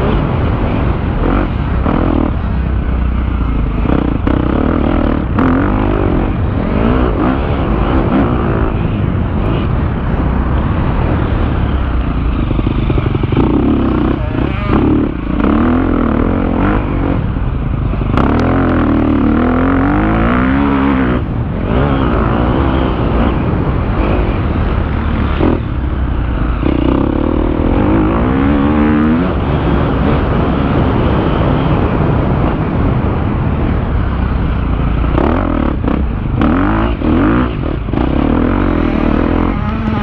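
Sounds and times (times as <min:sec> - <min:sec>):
motocross bike engine revving: 0:00.0 - 0:40.0.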